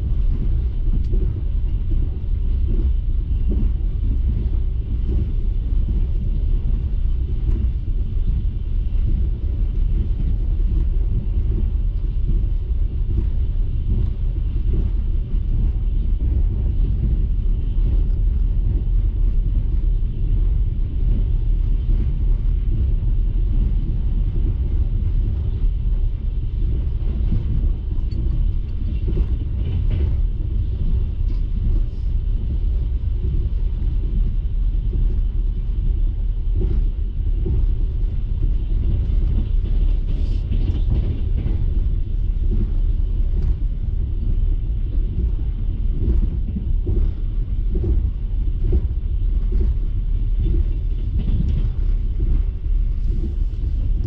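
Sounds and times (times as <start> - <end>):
train carriage rumbling: 0.0 - 54.0.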